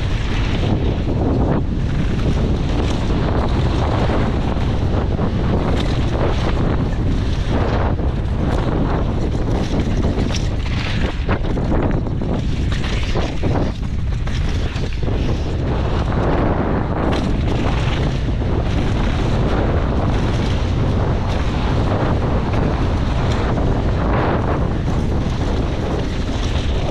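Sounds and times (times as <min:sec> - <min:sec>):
bike tyres on dirt trail: 0:00.0 - 0:26.9
wind buffeting microphone: 0:00.0 - 0:26.9.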